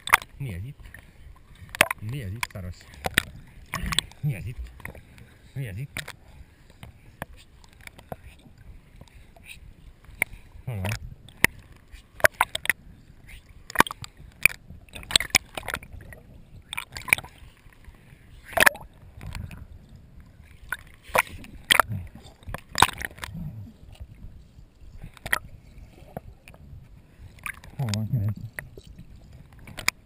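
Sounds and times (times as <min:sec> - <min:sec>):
muffled water sloshing: 0:00.0 - 0:30.0.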